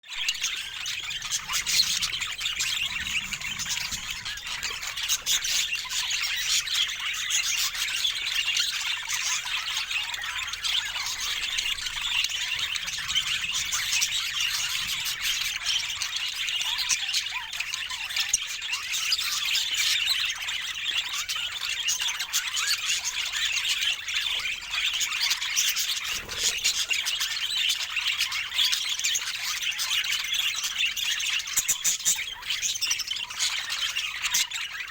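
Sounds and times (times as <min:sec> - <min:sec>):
budgerigars chattering: 0:00.2 - 0:34.9.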